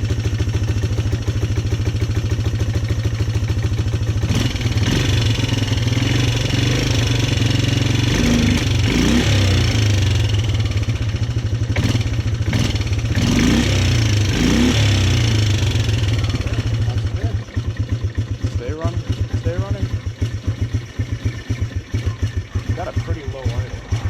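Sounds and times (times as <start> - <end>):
atv engine idling and revving: 0.0 - 24.0.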